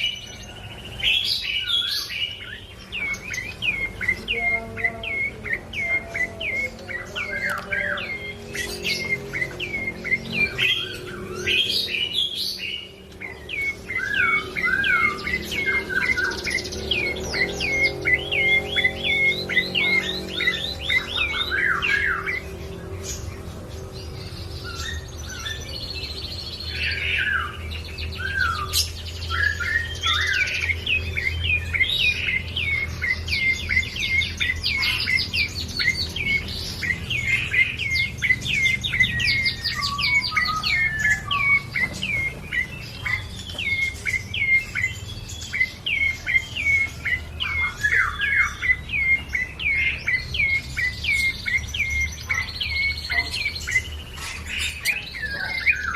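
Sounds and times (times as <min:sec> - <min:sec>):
bird singing rapid high notes: 0:00.0 - 0:55.9.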